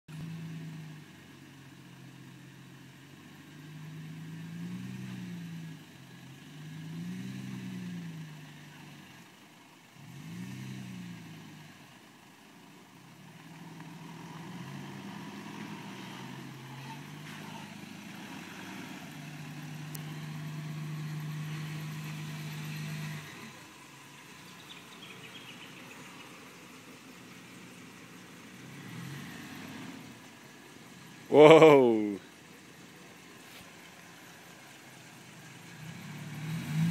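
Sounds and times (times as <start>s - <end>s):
off-road vehicle engine revving: 0.1s - 36.9s.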